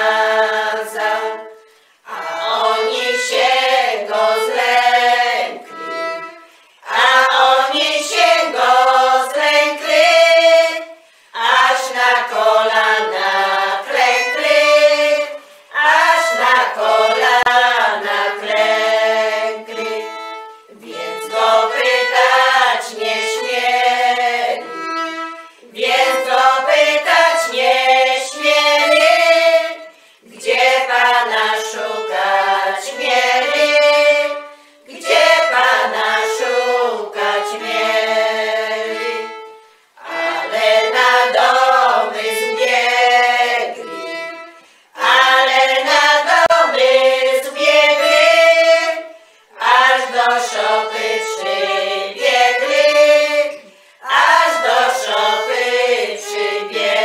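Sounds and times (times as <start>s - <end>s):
violin accompaniment: 0.0s - 57.0s
women's choir singing a carol: 0.0s - 57.0s.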